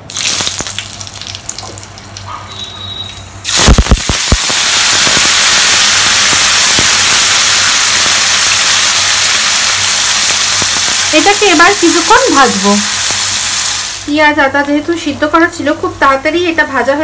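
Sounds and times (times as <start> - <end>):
spices crackling in hot oil: 0.0 - 2.3, 3.2 - 17.0
oil sizzling loudly: 0.0 - 17.0.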